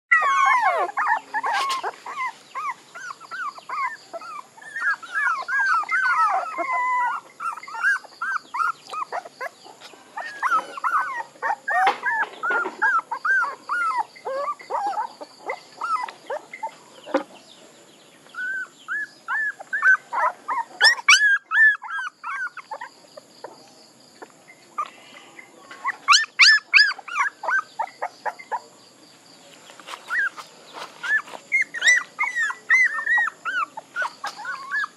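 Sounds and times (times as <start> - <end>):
puppies whining and whimpering: 0.1 - 17.2, 18.3 - 23.6, 25.8 - 28.7, 30.0 - 34.9.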